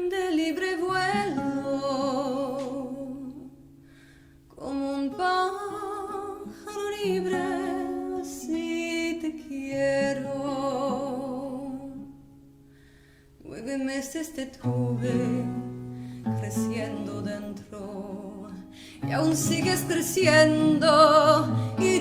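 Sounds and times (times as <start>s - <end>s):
person singing with vibrato: 0.0s - 3.6s, 4.5s - 12.0s, 13.4s - 22.0s.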